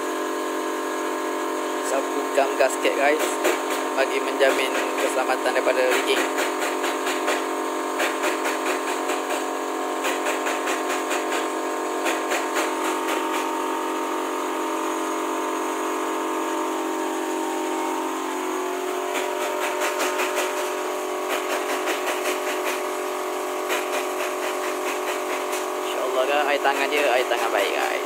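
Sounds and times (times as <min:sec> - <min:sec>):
steady whirring hum: 0:00.0 - 0:28.0.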